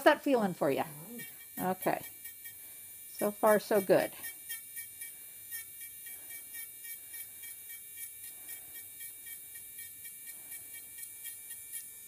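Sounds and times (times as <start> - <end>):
rotary file whining: 0.0 - 12.0.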